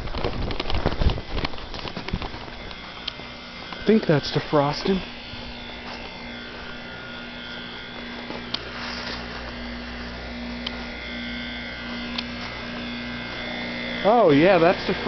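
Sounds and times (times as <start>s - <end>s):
heat pump compressor hum: 0.0s - 15.0s.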